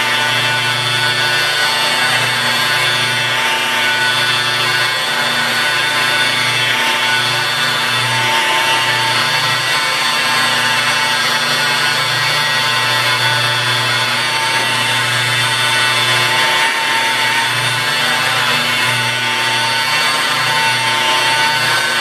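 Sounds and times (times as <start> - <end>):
rotary polisher motor whine: 0.0 - 22.0.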